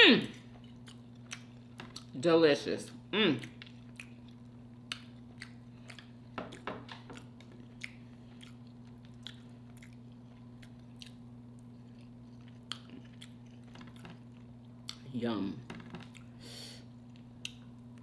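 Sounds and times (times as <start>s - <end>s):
steady low hum: 0.0s - 18.0s
person chewing: 0.3s - 2.2s, 2.8s - 15.1s, 15.8s - 18.0s.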